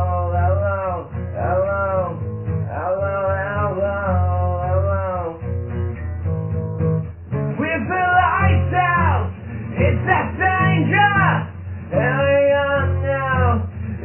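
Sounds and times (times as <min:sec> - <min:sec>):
gliding guitar melody: 0:00.0 - 0:14.0
steady bass: 0:00.0 - 0:14.0.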